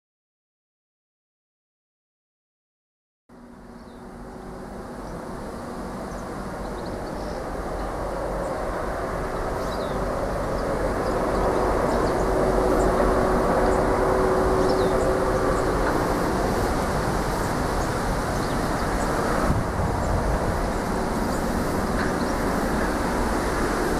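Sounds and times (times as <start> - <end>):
diesel locomotive engine drone: 3.3 - 23.9
train rumble: 3.3 - 23.9.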